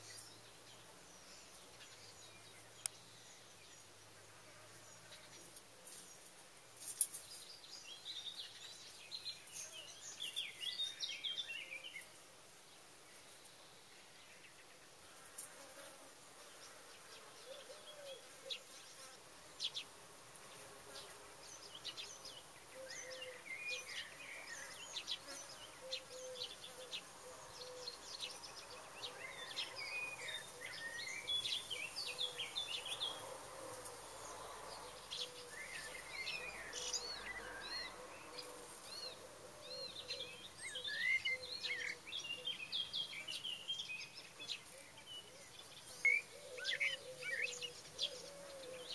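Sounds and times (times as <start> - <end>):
songbirds chirping and singing: 0.0 - 15.0, 16.6 - 48.9.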